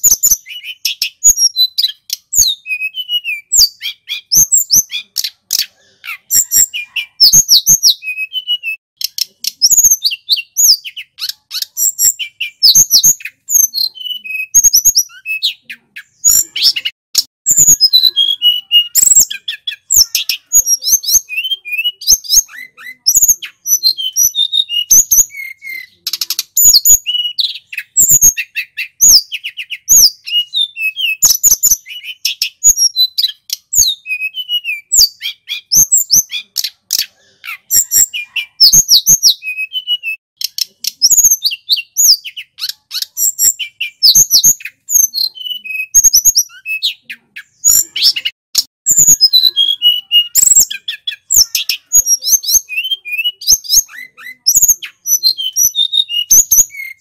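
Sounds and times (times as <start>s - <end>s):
bird singing chirps and trills: 0.0s - 57.0s.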